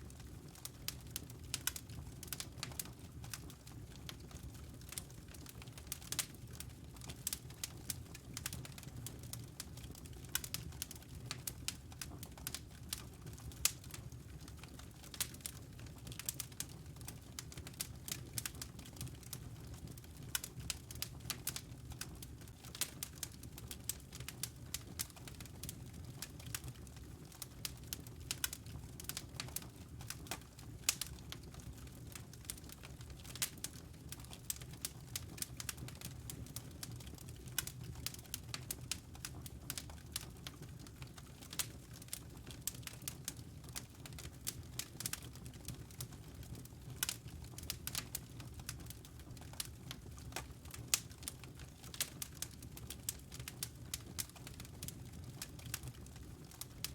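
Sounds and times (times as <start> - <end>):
wood fire crackling and popping: 0.0 - 56.9
low rumble of flames: 0.1 - 56.9.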